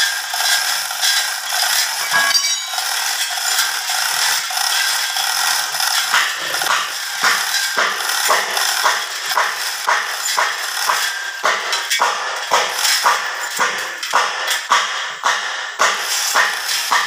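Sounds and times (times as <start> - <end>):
hoist chain rattling and clinking: 0.0 - 14.7, 16.0 - 17.0.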